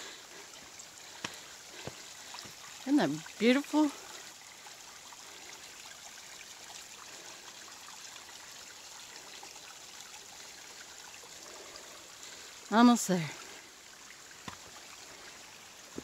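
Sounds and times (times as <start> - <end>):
water trickling over rock: 0.0 - 16.0.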